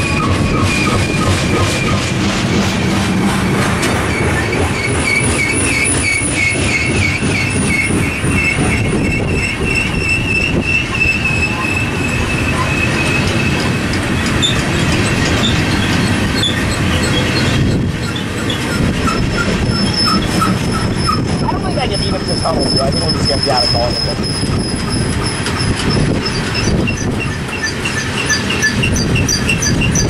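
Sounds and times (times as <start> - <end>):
train cars rumbling and clattering: 0.0 - 30.0
train wheels squealing on rails: 0.0 - 30.0.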